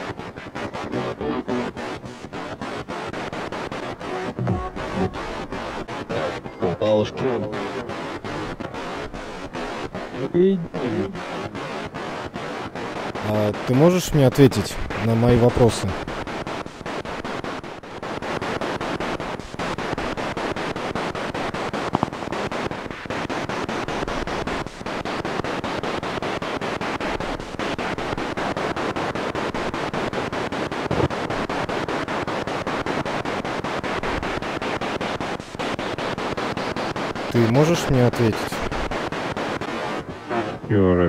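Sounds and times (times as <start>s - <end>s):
pulsing radio static: 0.0s - 41.0s.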